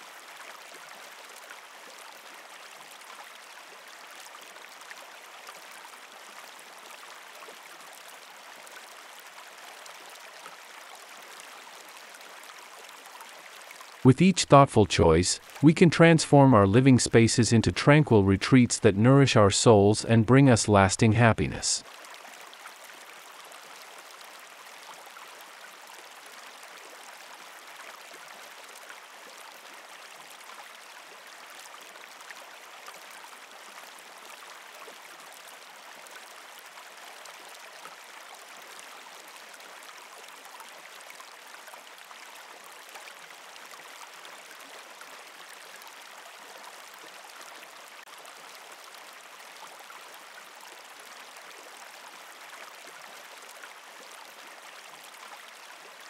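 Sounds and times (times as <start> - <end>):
stream running water: 0.0 - 56.0.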